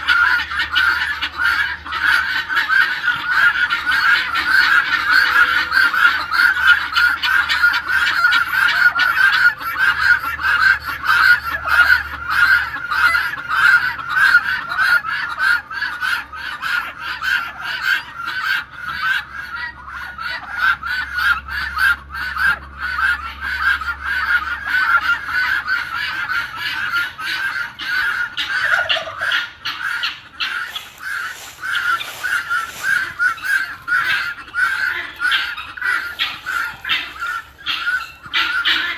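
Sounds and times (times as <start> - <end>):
guineafowl calling: 0.0 - 38.9.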